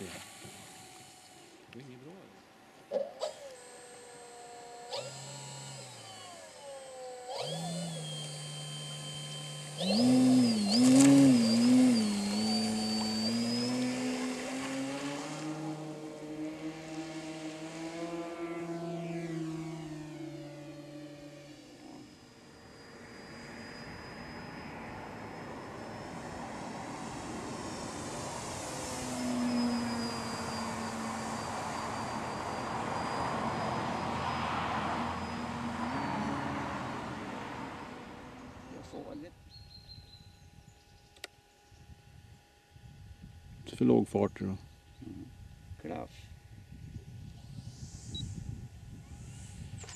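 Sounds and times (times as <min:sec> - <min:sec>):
model plane motor whine: 0:00.0 - 0:49.9.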